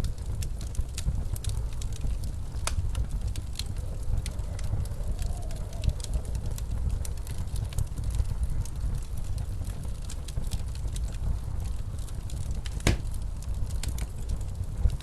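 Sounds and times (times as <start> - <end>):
blizzard wind rumbling: 0.0 - 15.0
fireplace crackling: 0.0 - 15.0.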